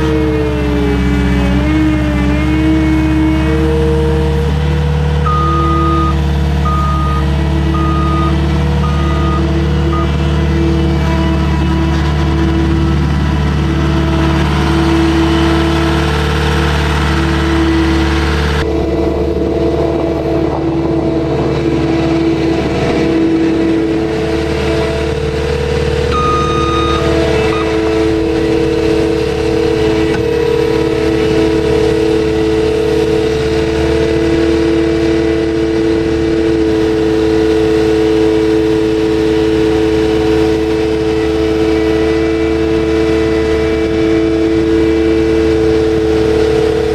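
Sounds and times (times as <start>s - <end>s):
skid steer engine under load: 0.0s - 46.9s.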